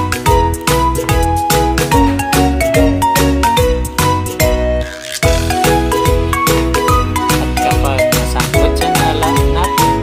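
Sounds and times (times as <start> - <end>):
background music with quick beat: 0.0 - 10.0.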